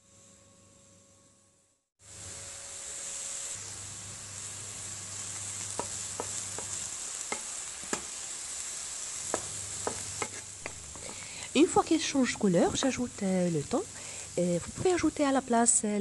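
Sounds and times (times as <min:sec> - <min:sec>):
vegetables sizzling in frying pan: 0:02.0 - 0:16.0.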